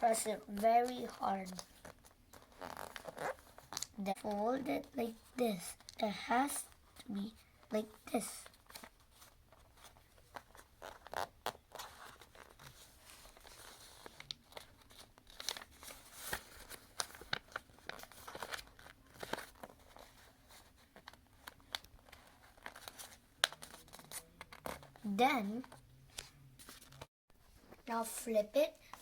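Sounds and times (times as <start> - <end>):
paper rustling and crinkling: 0.5 - 6.0, 8.4 - 25.0, 25.6 - 27.9.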